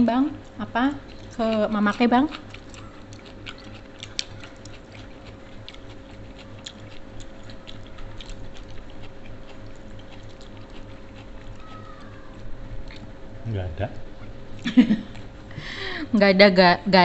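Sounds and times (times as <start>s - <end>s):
people chewing: 0.0s - 15.9s
faint hum: 0.0s - 17.0s.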